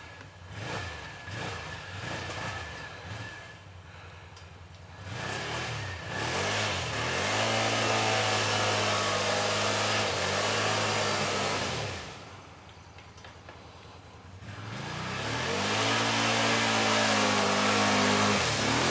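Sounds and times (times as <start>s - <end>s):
atv engine revving: 0.0s - 12.5s, 14.3s - 18.9s.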